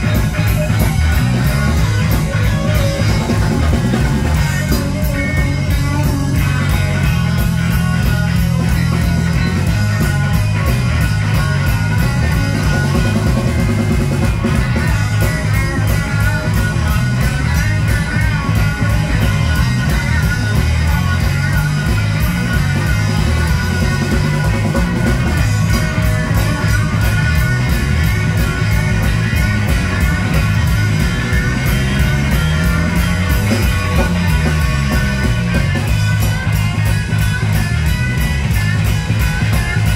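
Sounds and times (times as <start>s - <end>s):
live blues-rock band playing: 0.0s - 39.9s.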